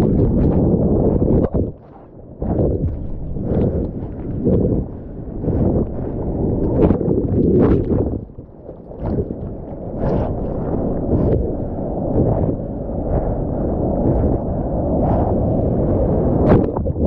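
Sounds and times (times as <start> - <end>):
sea water splashing: 0.0 - 17.0.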